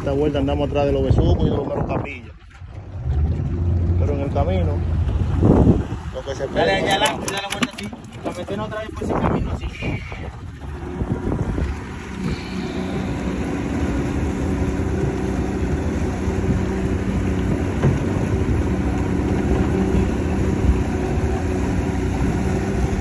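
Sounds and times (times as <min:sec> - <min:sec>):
outboard motor running: 0:00.0 - 0:23.0
water rushing along hull: 0:00.0 - 0:23.0.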